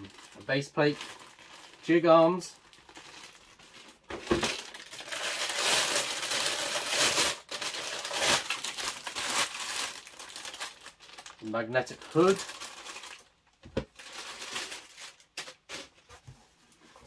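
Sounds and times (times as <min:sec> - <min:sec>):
plastic bag rustling and crinkling: 0:00.0 - 0:16.2.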